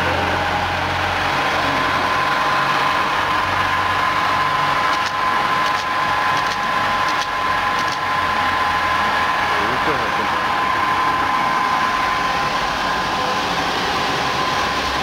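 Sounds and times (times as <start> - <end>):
packing machine humming: 0.0 - 15.0.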